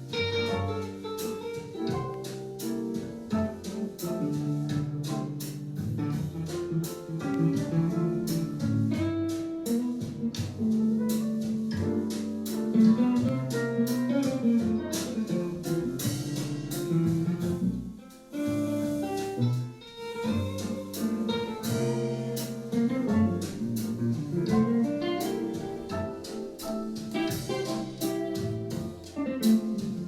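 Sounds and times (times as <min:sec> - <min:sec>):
plucked guitar music: 0:00.0 - 0:30.0.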